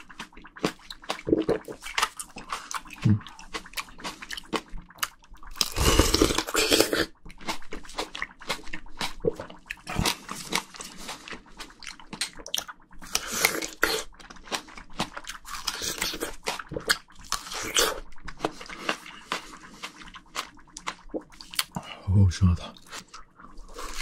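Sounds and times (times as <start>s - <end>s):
mouth clicks and smacks: 0.0s - 21.9s
chewing juicy plum: 0.0s - 22.0s, 22.7s - 24.0s.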